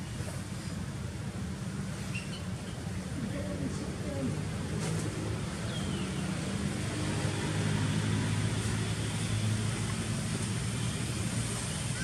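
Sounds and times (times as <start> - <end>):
outdoor noise: 0.0 - 12.0.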